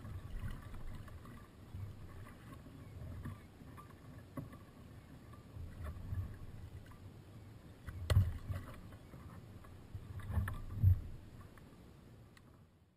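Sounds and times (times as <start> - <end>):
waves lapping against kayak hull: 0.0 - 12.6.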